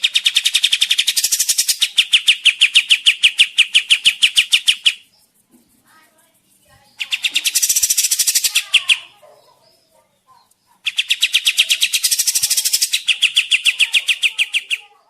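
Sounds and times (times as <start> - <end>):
bird chattering song: 0.0 - 15.0.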